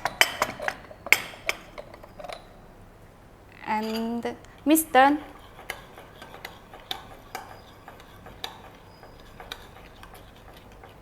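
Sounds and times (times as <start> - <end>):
utensil tapping bowl while stirring: 0.0 - 2.5, 3.8 - 11.0.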